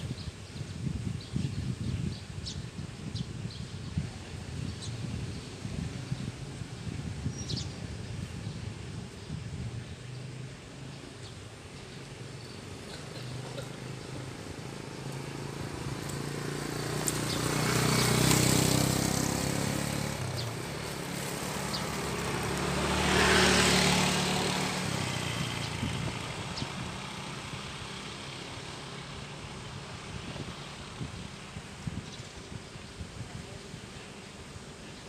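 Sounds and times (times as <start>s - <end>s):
motor vehicles passing: 0.0s - 35.0s.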